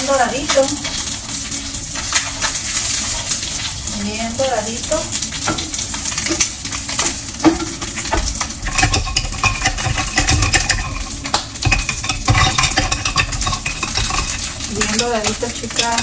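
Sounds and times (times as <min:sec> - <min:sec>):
omelette sizzling in a pan: 0:00.0 - 0:16.0.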